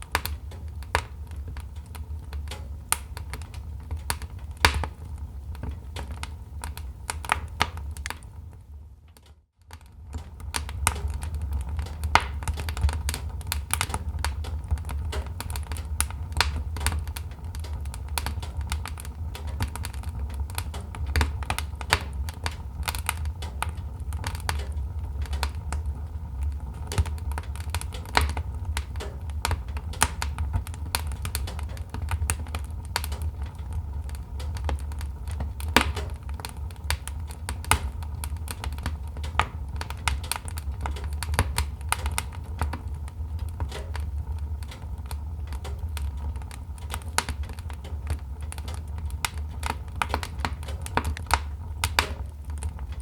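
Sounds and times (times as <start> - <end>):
fire popping and snapping: 0.0 - 53.0
low rumble of fire: 0.0 - 53.0.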